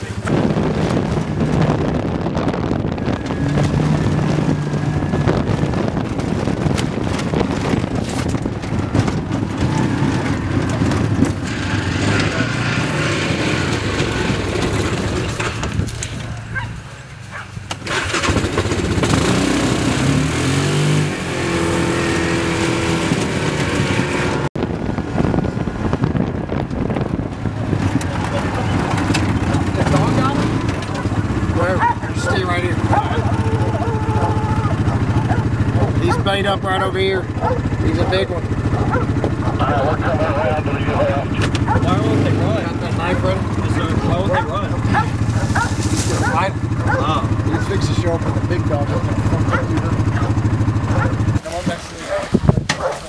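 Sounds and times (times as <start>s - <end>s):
utility vehicle engine revving: 0.0s - 52.9s.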